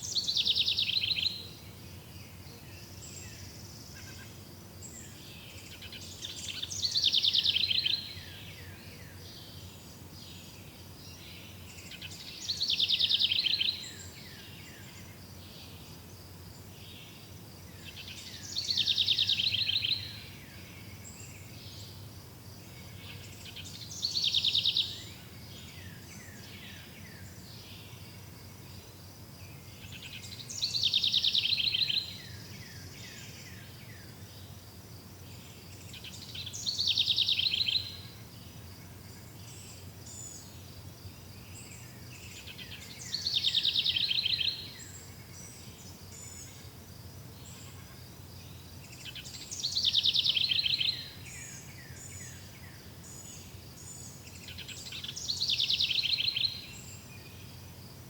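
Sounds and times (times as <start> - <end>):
faint insect-like chirring: 0.0 - 58.0
songbird singing: 0.0 - 58.0.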